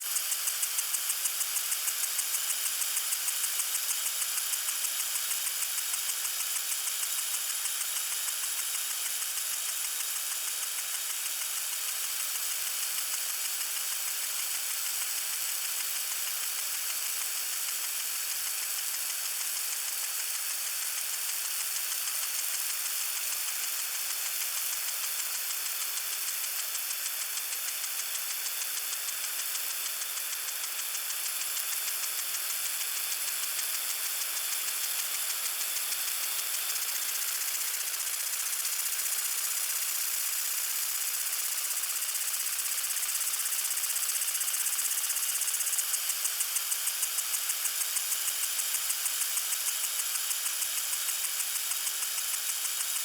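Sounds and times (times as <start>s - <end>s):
sprinkler spraying water: 0.0s - 53.0s.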